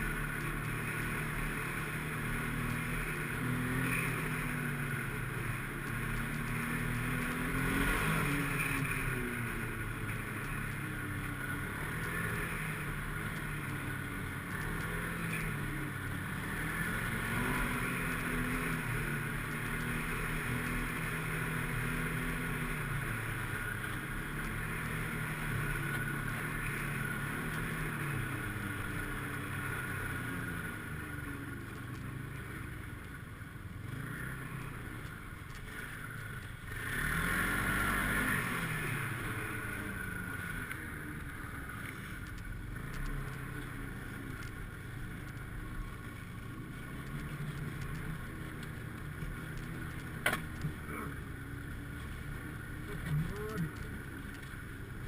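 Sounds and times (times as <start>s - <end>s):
snowmobile engine revving: 0.0s - 31.6s, 36.7s - 41.8s, 45.2s - 55.0s.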